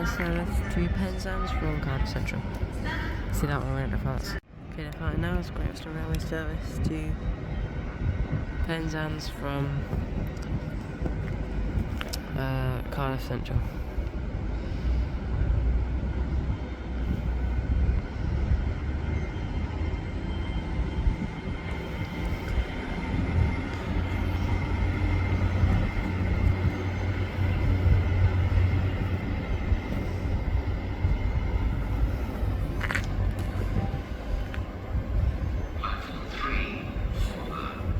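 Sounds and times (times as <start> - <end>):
train engine rumbling: 0.0 - 37.9.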